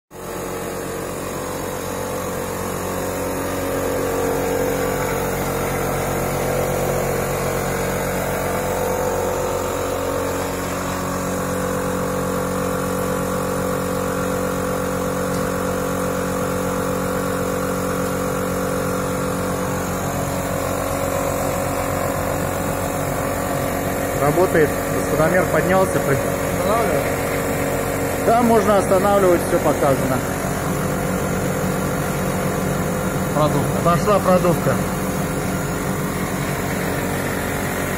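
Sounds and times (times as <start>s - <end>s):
ozone generator humming: 0.2s - 37.9s.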